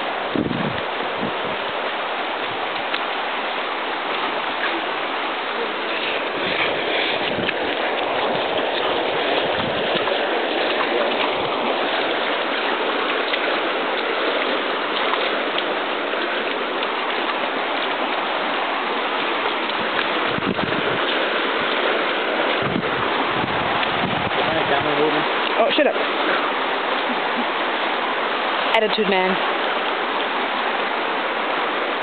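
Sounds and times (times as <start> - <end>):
river rushing over rocks: 0.0 - 32.0.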